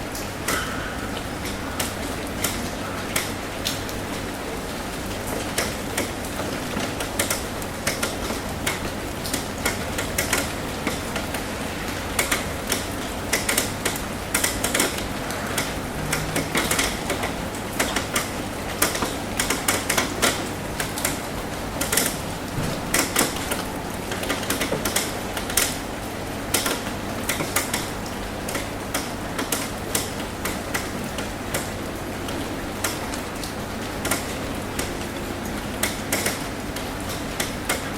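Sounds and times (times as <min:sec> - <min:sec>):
rain hiss: 0:00.0 - 0:37.9
raindrops ticking on a metal roof: 0:00.0 - 0:37.9.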